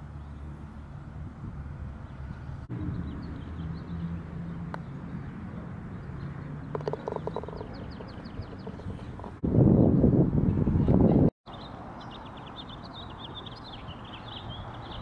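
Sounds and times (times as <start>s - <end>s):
small birds chirping: 2.0s - 10.6s, 11.5s - 15.0s.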